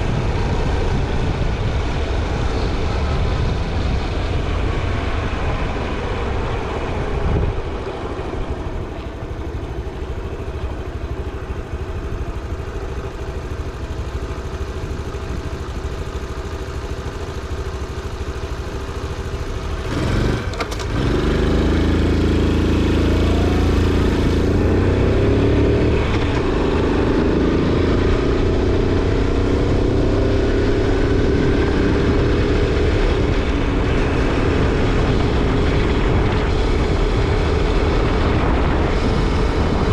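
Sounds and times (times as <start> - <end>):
low wind rush: 0.0 - 14.5, 19.3 - 39.9
motorcycle engine running: 0.0 - 39.9.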